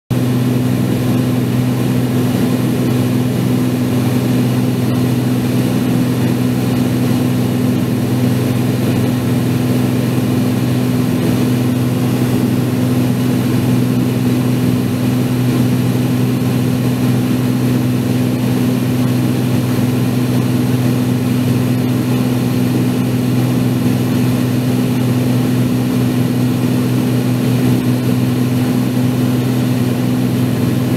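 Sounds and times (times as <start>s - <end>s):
propeller aircraft engine droning: 0.1s - 30.9s.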